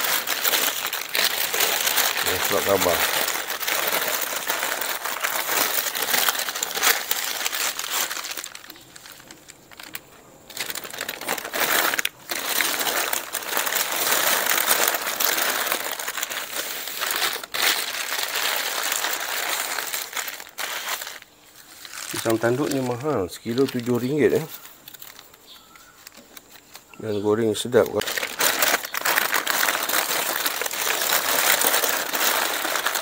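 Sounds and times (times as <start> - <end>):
newspaper crinkling: 0.0 - 33.0.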